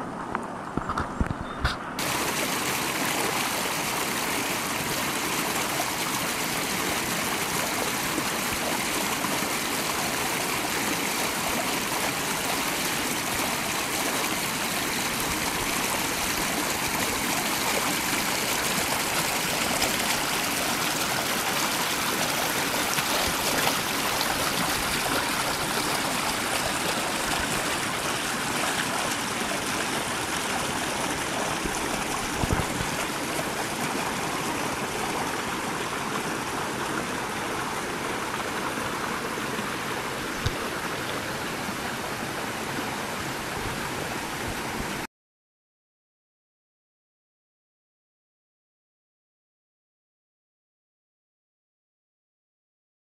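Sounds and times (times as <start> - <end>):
stream rushing over rocks: 2.0 - 45.1.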